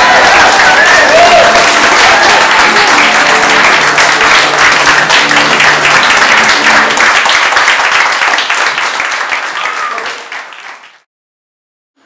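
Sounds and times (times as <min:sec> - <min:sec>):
crowd clapping: 0:00.0 - 0:11.1.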